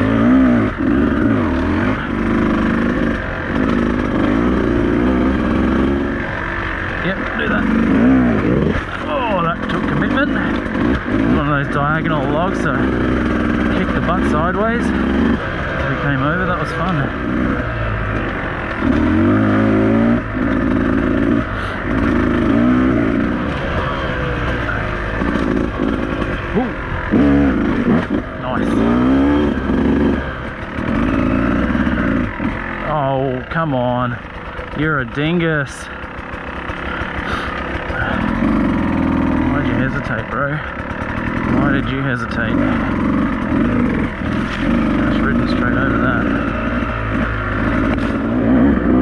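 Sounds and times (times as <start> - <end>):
two-stroke motorcycle engine revving: 0.0 - 49.0.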